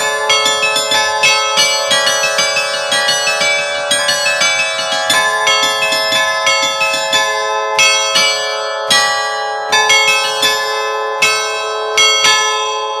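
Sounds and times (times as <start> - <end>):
carillon bells ringing: 0.0 - 13.0.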